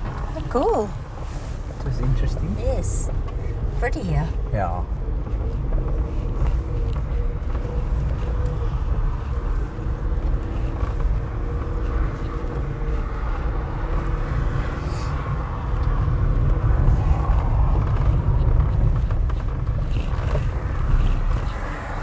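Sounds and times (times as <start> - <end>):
car rumbling over dirt track: 0.0 - 22.0.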